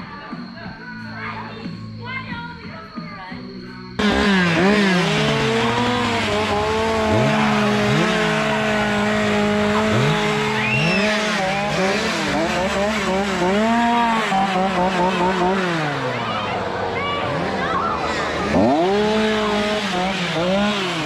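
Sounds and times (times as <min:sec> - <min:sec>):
chainsaw revving: 0:04.0 - 0:21.0.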